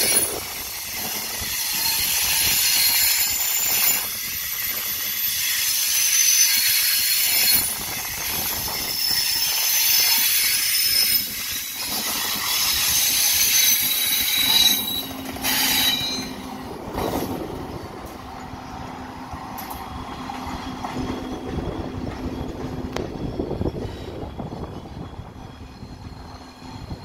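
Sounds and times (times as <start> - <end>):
train low hum: 0.0 - 27.0
train wheels squealing: 0.0 - 27.0.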